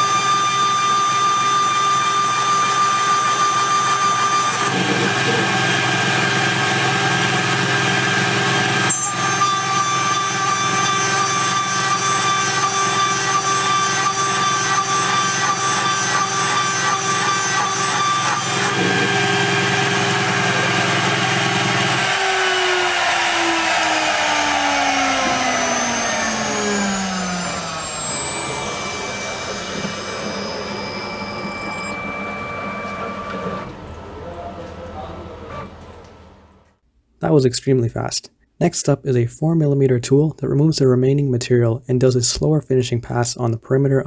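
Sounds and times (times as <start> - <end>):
spindle winding down: 0.0 - 36.2
milling machine whine: 0.0 - 36.7.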